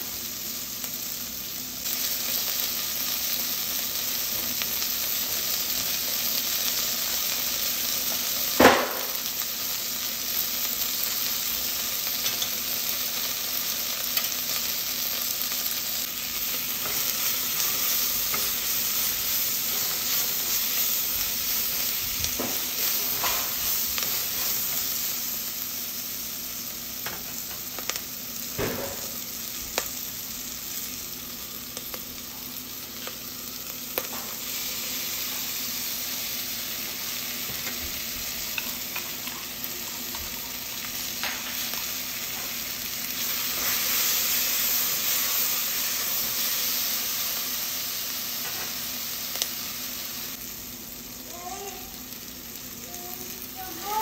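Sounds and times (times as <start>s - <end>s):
peppers sizzling in oil: 0.0s - 54.0s.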